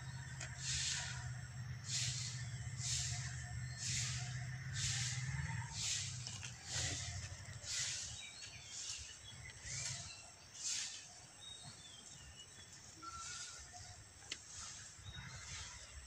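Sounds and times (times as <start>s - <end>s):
small birds chirping: 0.0s - 16.0s
rustling scrapes in soil and leaves: 0.3s - 16.0s.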